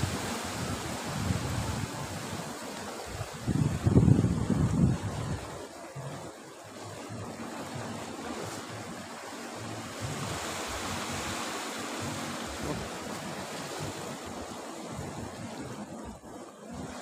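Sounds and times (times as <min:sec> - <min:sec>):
sea waves washing against rocks: 0:00.0 - 0:17.0.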